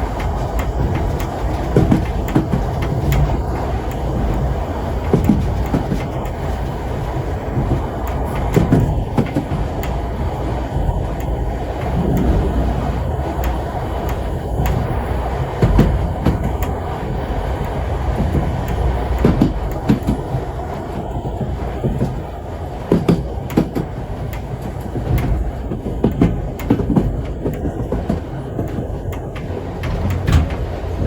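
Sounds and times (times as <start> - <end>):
train carriage rumble: 0.0 - 31.0
wheel clacks over rail joints: 0.0 - 31.0.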